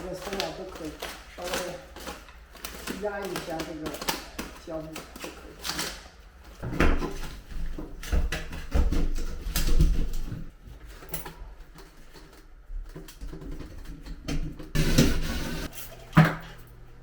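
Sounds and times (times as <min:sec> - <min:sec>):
handling clicks and rustling: 0:00.0 - 0:14.7.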